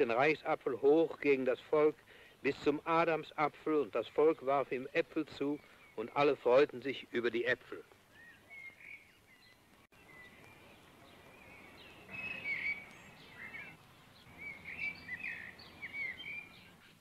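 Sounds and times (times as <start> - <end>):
low outdoor hiss: 0.0 - 17.0
songbirds chirping: 0.0 - 17.0.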